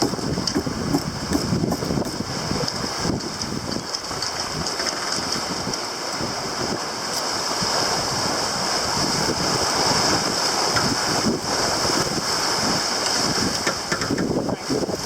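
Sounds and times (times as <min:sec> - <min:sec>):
water rushing along a hull: 0:00.0 - 0:15.0
wind buffeting the microphone: 0:00.0 - 0:15.0.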